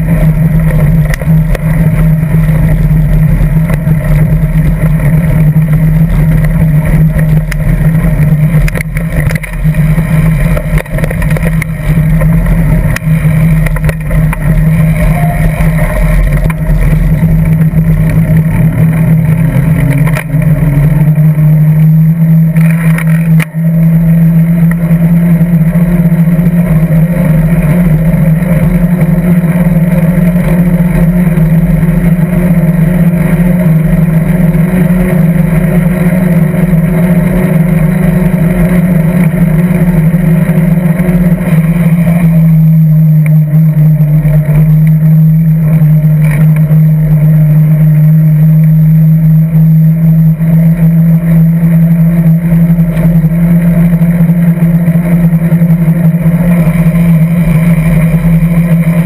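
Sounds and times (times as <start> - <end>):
low hum: 0.0 - 59.0
mountain bike tyre rumble: 0.0 - 59.0.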